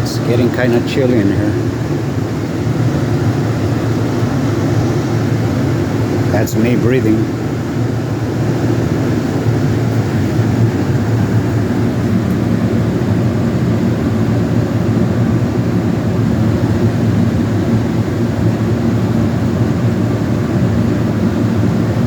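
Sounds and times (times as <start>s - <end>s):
cooler fans blowing air: 0.0s - 22.0s.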